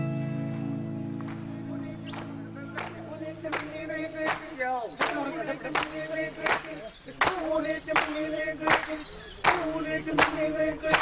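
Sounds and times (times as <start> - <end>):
sharp hand claps: 1.2 - 11.0.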